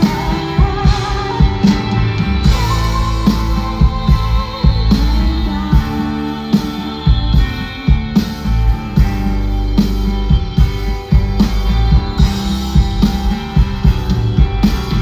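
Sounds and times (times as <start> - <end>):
bass: 0.0 - 15.0
drum kit beat: 0.0 - 15.0
guitars: 0.0 - 15.0.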